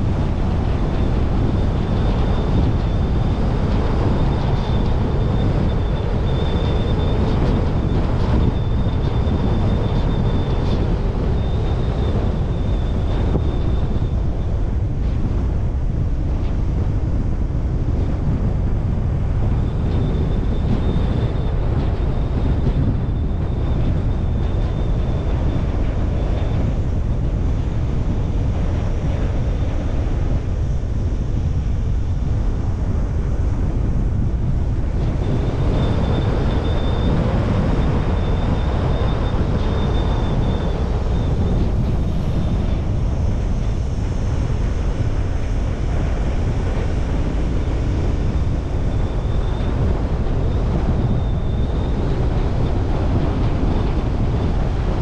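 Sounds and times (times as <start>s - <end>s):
car road and wind noise: 0.0s - 55.0s
faint high whine: 0.0s - 55.0s.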